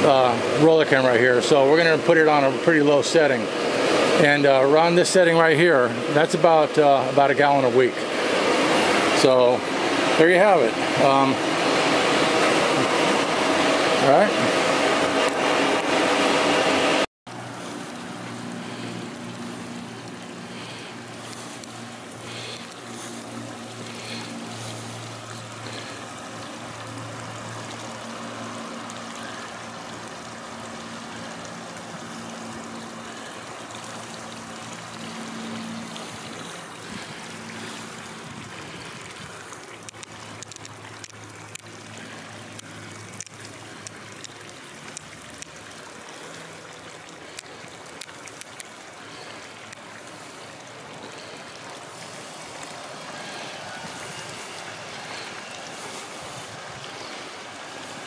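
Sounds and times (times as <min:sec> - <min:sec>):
low steady hum: 0:00.0 - 0:58.0
pool water trickling and rushing: 0:00.0 - 0:58.0.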